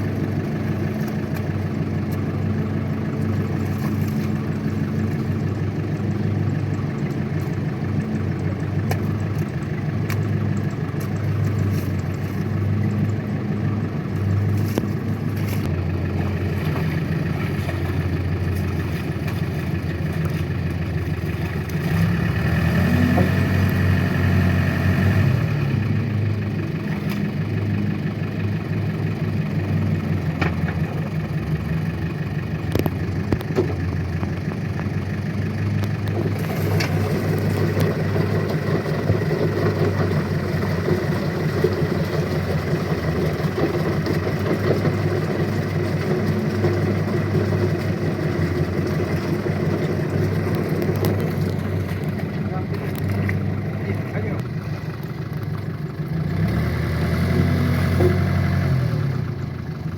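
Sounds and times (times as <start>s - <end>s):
tractor engine running and revving: 0.0s - 59.9s.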